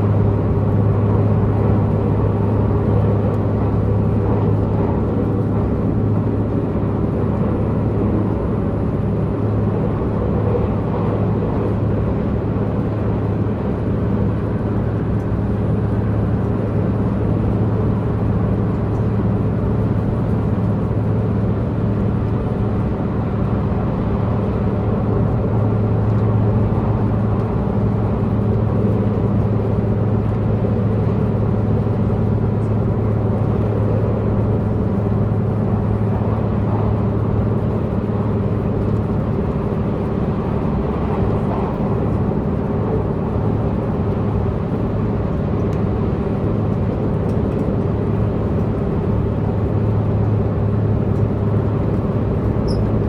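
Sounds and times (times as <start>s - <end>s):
diesel engine low drone: 0.0s - 53.0s
wheels rumbling on rails: 0.0s - 53.0s.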